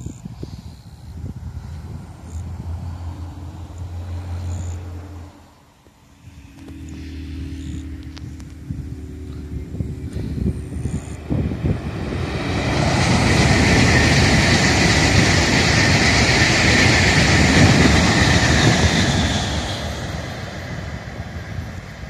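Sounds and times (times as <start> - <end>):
high-speed train passing: 0.1 - 22.0.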